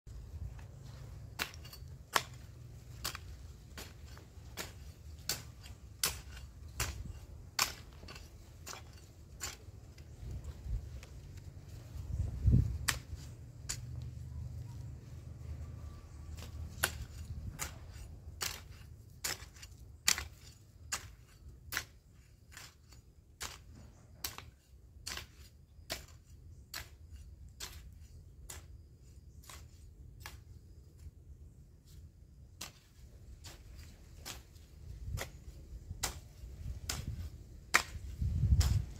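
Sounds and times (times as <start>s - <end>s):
garden tools clicking and tapping: 0.1s - 31.2s, 32.0s - 38.9s.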